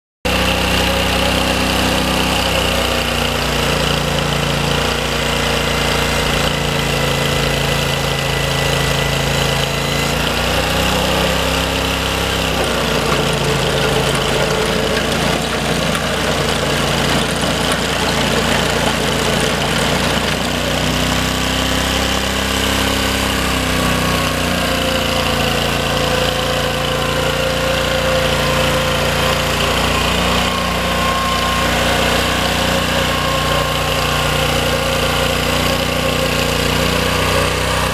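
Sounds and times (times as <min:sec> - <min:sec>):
small trencher engine running: 0:00.3 - 0:37.9.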